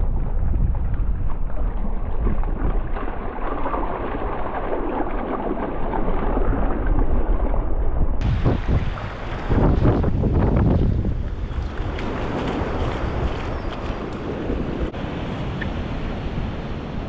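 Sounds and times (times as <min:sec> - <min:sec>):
shallow surf: 0:00.0 - 0:17.0
wind buffeting microphone: 0:00.0 - 0:17.0
water splashing: 0:00.6 - 0:17.0.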